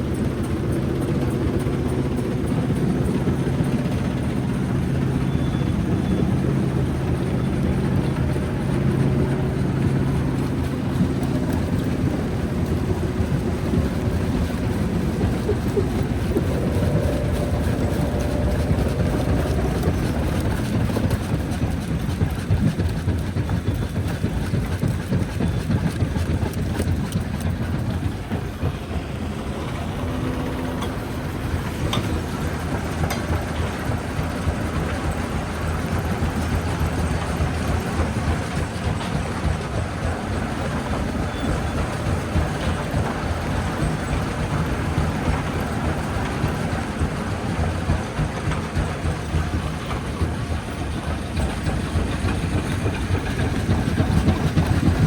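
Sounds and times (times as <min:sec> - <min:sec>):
rock crusher rumbling: 0:00.0 - 0:55.0.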